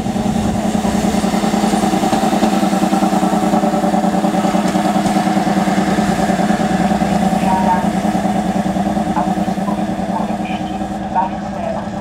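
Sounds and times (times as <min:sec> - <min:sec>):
diesel railcar engine drone: 0:00.0 - 0:12.0.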